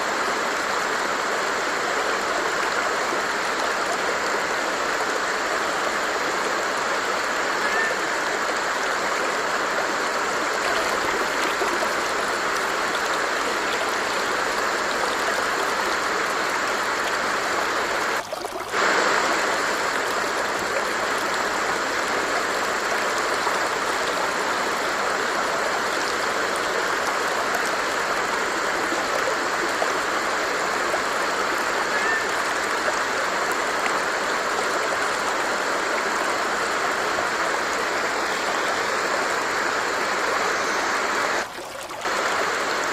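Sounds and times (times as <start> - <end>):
stream rushing and babbling: 0.0 - 42.9.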